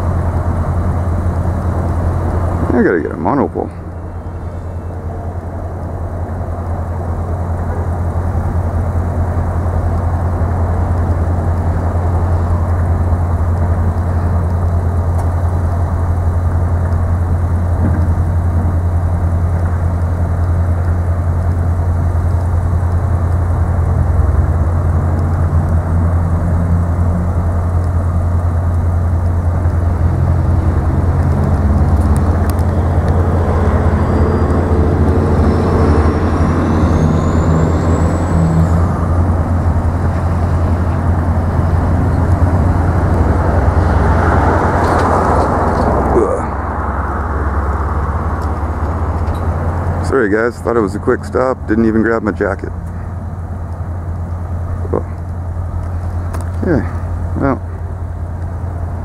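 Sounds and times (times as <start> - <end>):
second engine rising pitch: 0.0 - 20.8, 21.6 - 57.7
engine deep hum: 0.0 - 59.0.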